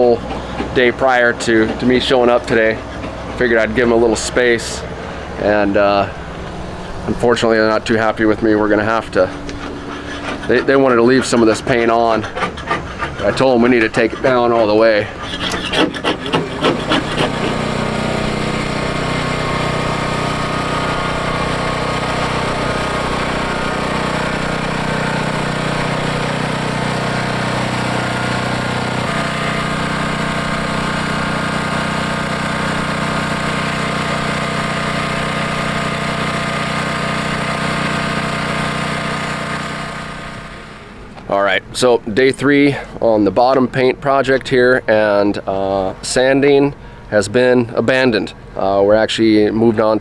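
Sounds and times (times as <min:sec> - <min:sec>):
power sander grinding: 0:00.0 - 0:41.3.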